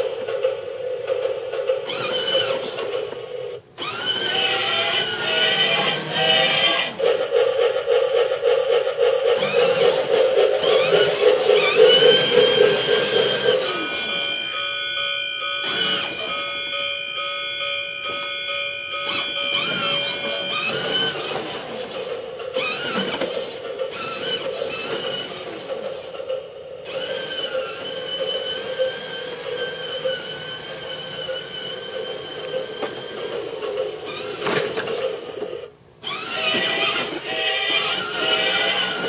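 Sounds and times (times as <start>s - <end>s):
model train motor whining: 0.0s - 39.0s.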